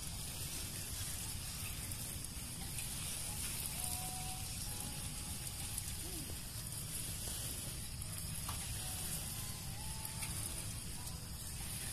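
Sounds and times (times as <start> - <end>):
watering can spraying water: 0.0 - 11.9.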